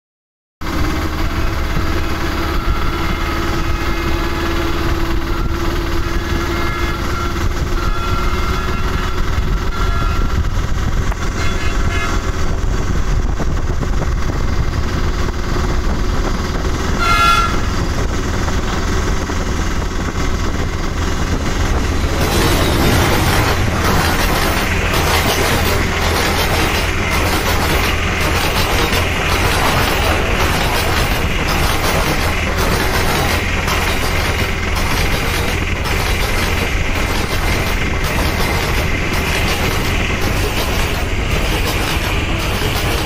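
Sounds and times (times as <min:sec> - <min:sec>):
train carriage rumbling on rails: 0:00.6 - 0:43.0.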